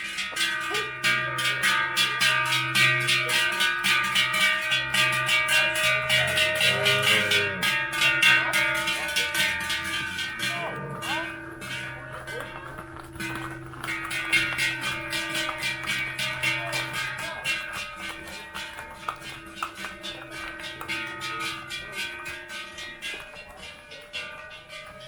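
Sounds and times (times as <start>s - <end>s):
cow bells clanging: 0.0s - 25.0s.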